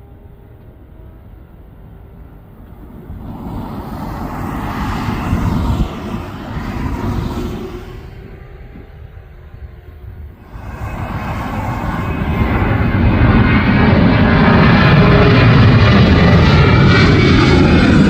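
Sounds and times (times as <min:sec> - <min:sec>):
jet aircraft engine noise: 0:00.0 - 0:18.0
low rumble: 0:02.5 - 0:18.0.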